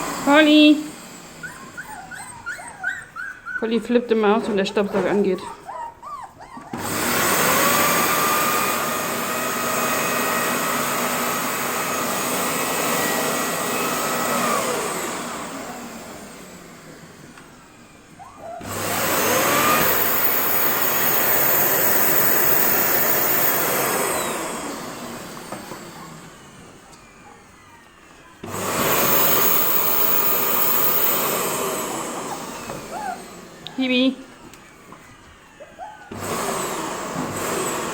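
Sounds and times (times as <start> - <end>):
vacuum cleaner whining: 0.0 - 37.9.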